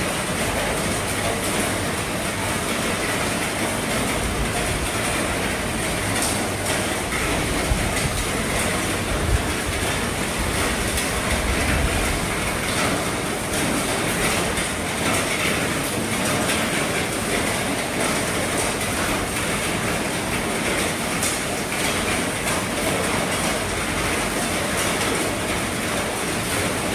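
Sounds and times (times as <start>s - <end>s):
heavy rain drumming on a roof: 0.0s - 26.9s.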